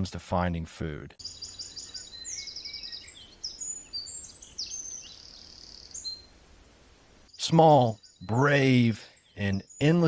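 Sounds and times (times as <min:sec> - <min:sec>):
small birds singing: 0:01.2 - 0:10.0.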